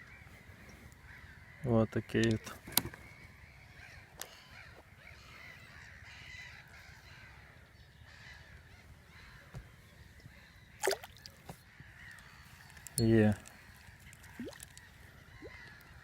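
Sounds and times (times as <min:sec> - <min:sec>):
faint bird calls: 0:00.0 - 0:16.0.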